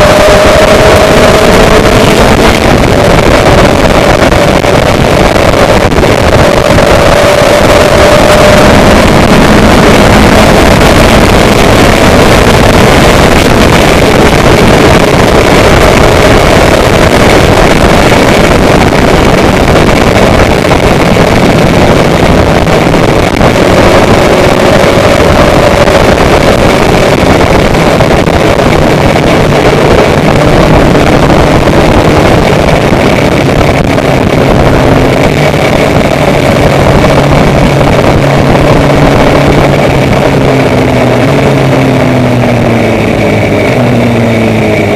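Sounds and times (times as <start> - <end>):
engine hum: 0.0 - 44.9
wind and road noise: 0.0 - 44.9.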